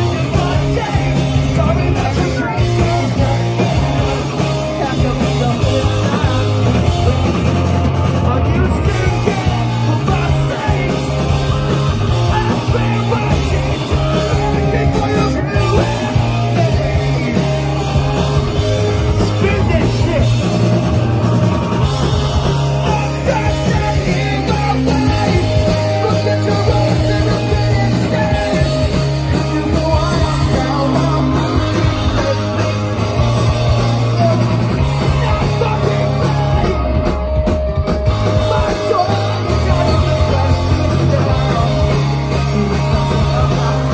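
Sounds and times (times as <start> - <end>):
singer shouting vocals: 0.0 - 7.5, 12.1 - 21.9, 22.6 - 37.4, 38.3 - 43.9
bass: 0.0 - 43.9
distorted electric guitars: 0.0 - 43.9
drums: 0.0 - 43.9.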